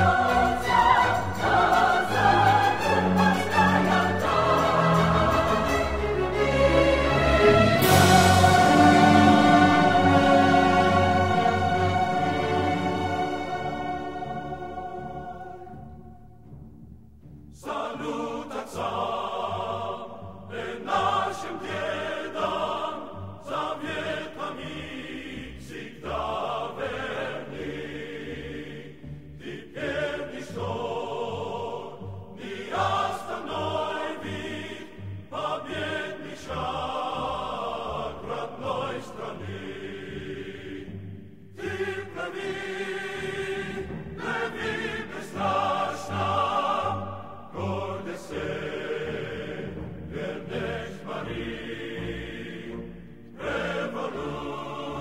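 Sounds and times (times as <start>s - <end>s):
choir singing sustained chords: 0.0s - 55.0s.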